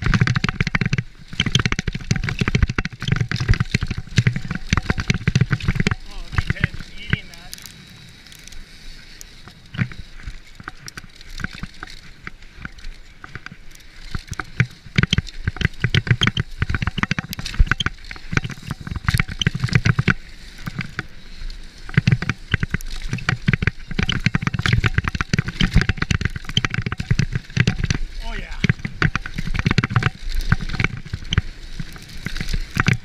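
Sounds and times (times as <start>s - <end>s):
mountain bike clattering over rocks: 0.0s - 33.0s
wind rumble on microphone: 0.0s - 33.0s.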